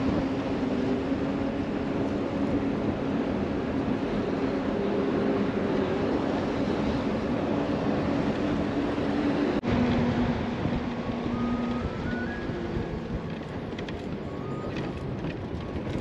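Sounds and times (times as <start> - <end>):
bus engine droning: 0.0 - 16.0
road noise: 0.0 - 16.0.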